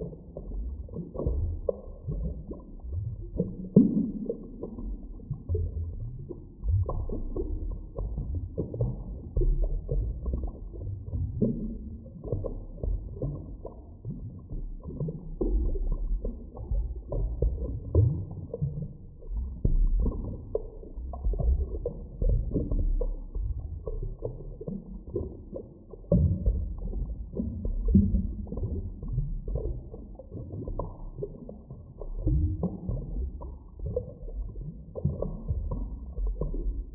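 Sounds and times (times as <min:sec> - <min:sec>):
bubbling gurgles: 0:00.0 - 0:36.9
muffled underwater rumble: 0:00.0 - 0:36.9.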